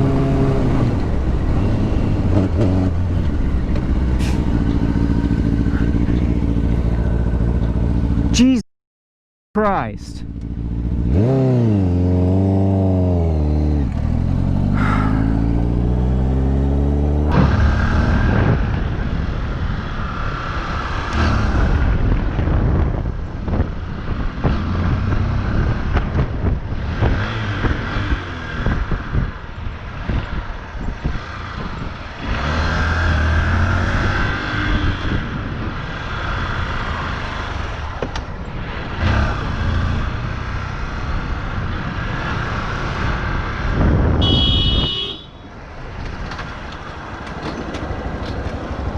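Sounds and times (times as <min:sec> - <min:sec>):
motorcycle engine revving: 0:00.0 - 0:08.4, 0:10.3 - 0:29.4, 0:31.0 - 0:38.0, 0:38.6 - 0:45.4
wind and road noise: 0:00.0 - 0:08.6, 0:09.6 - 0:48.9.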